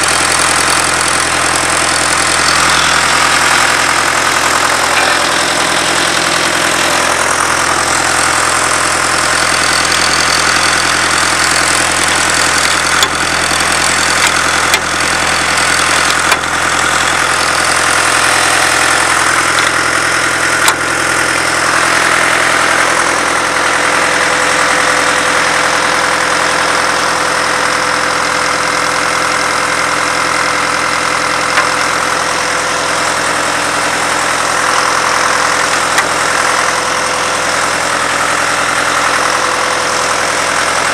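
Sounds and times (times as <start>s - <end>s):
sharp metallic clicks: 0.0s - 27.2s, 28.6s - 40.9s
engine idling: 0.0s - 40.9s.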